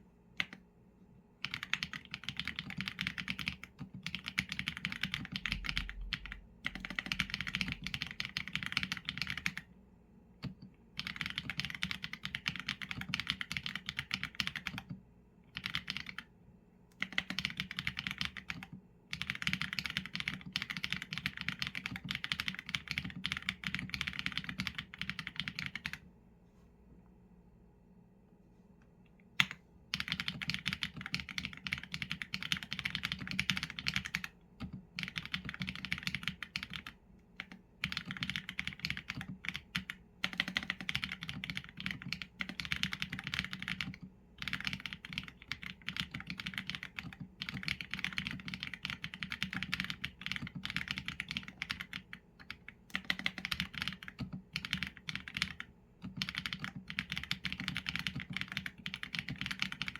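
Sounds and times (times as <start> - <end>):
mechanical keyboard typing: 1.4 - 9.7, 10.4 - 16.3, 17.0 - 26.0, 29.4 - 59.9.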